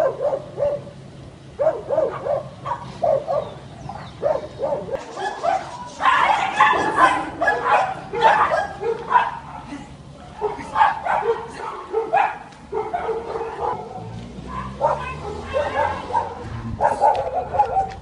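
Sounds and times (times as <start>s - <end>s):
dog barking: 0.0s - 0.9s, 1.6s - 18.0s.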